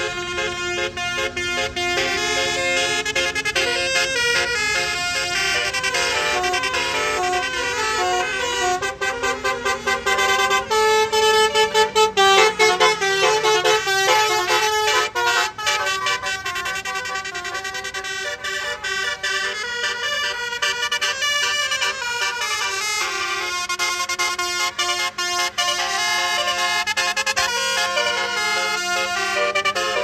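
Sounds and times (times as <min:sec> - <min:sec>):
musical bus horns playing tune: 0:00.0 - 0:30.0.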